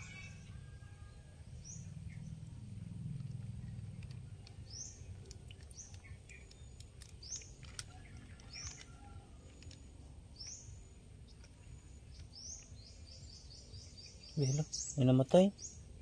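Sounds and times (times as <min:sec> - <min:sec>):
faint low rumble: 0:00.0 - 0:14.4
bird chirping: 0:00.0 - 0:16.0.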